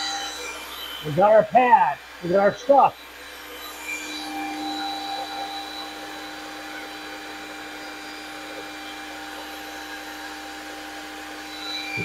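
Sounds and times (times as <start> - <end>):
electric drill running: 0.0 - 12.0.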